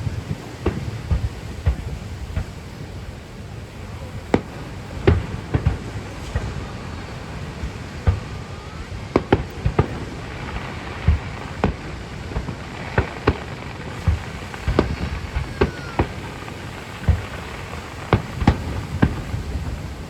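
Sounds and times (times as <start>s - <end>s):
fireworks deep booms: 0.0s - 20.0s
fireworks sharp bangs: 0.0s - 20.0s
fireworks whistling: 0.0s - 20.0s.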